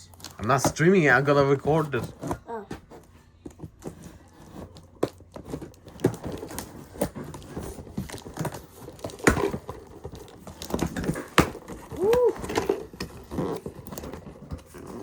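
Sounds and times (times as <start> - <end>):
cardboard box rustling and tearing: 1.6 - 15.0.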